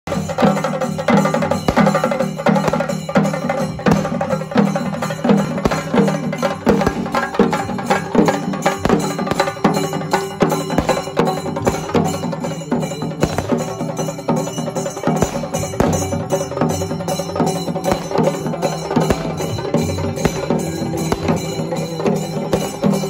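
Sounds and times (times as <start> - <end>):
drums beaten rapidly with sticks: 0.1 - 23.0
hand cymbals clashing: 0.1 - 23.0.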